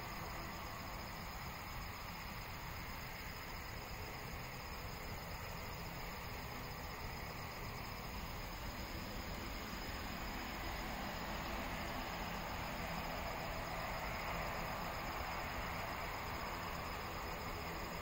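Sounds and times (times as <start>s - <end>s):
crickets droning: 0.0s - 18.0s
outdoor hiss: 0.0s - 18.0s.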